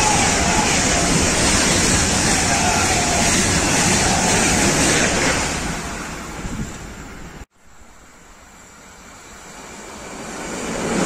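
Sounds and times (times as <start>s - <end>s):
high-speed train passing: 0.0s - 11.0s.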